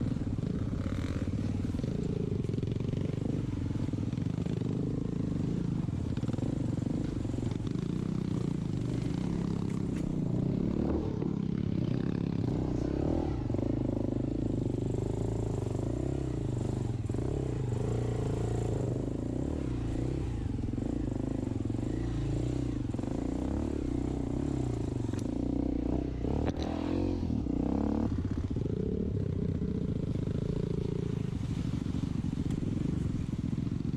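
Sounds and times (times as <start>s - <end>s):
dirt bike engine revving: 0.0s - 32.2s.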